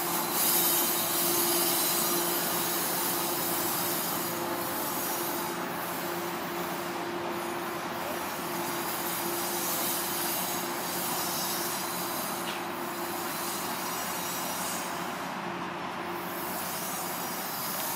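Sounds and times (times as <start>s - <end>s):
train wheels rushing on rails: 0.0s - 17.9s.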